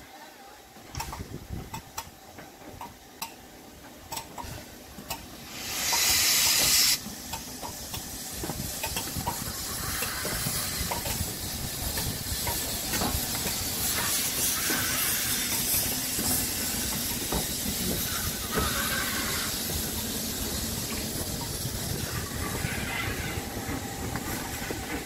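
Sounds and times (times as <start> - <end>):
steam locomotive moving slowly: 0.0 - 25.0
hiss of escaping steam: 4.4 - 25.0.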